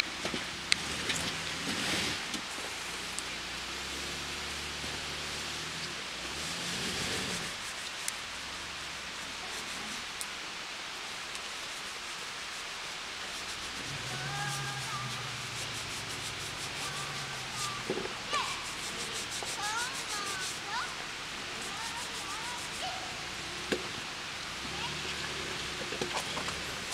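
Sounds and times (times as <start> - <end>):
engine running at low revs: 0.0 - 11.2, 12.8 - 26.9
steady hiss: 0.0 - 26.9.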